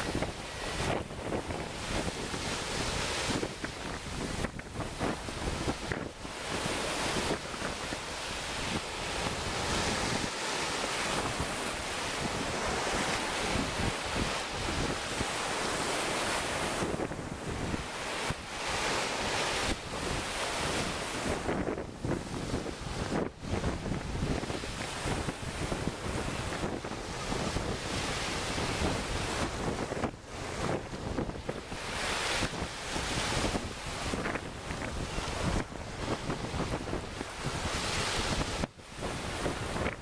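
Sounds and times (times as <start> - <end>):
sea waves washing onto beach: 0.0 - 40.0
wind buffeting microphone: 0.0 - 40.0.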